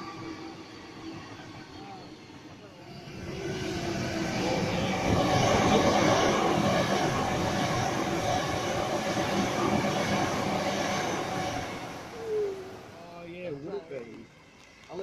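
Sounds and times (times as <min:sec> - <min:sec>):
trains passing on rails: 0:00.0 - 0:15.0.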